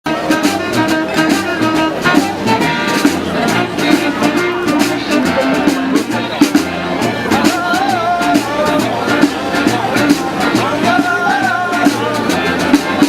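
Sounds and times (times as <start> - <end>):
street band playing funk: 0.0 - 13.0
pulsing bass line: 0.2 - 13.0.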